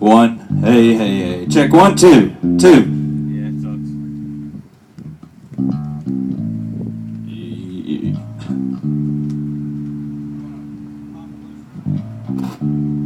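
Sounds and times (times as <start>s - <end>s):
electric bass guitar notes: 0.0s - 13.0s.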